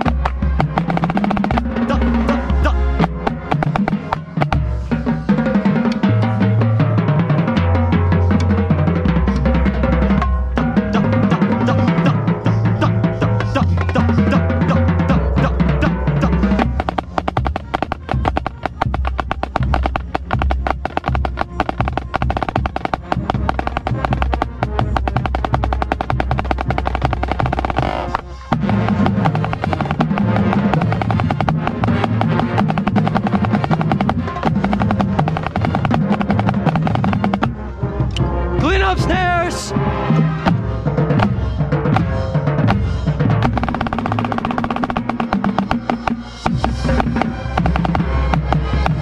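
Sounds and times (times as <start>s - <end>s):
brass and bass notes: 0.0s - 49.0s
snare drum strokes and rolls: 0.0s - 49.0s.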